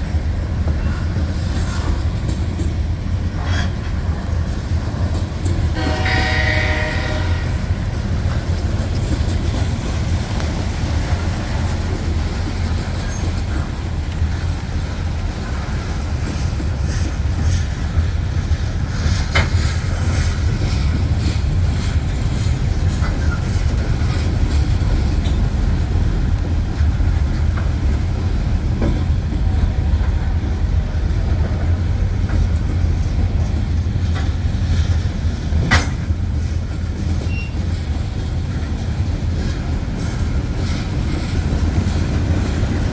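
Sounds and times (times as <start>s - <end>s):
freight train rumbling past: 0.0s - 42.9s.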